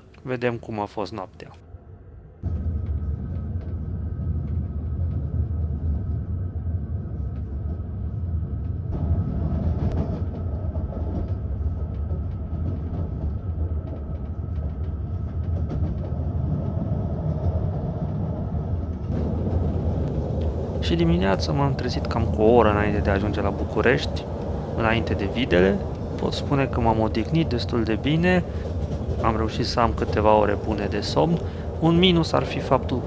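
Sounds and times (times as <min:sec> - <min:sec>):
train wheels rumbling: 0:02.4 - 0:33.0.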